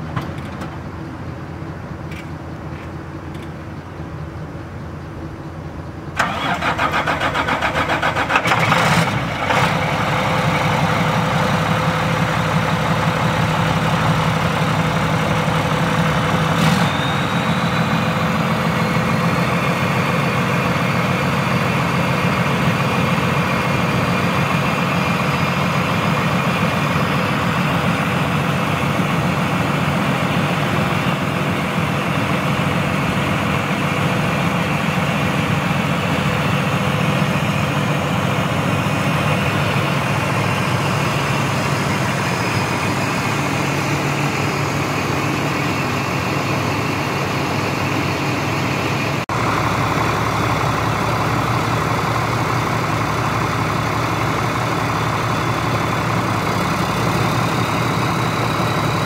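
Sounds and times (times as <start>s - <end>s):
diesel engine starting and idling: 0.0s - 59.0s.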